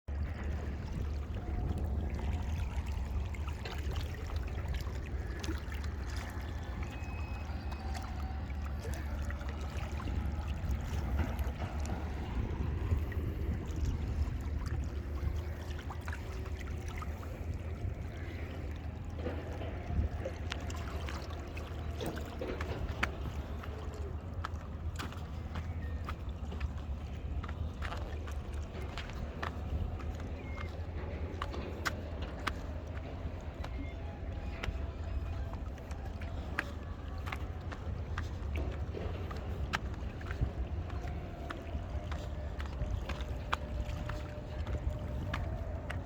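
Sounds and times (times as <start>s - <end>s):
low rumble: 0.1s - 46.0s
waves washing against rocks: 0.2s - 46.0s.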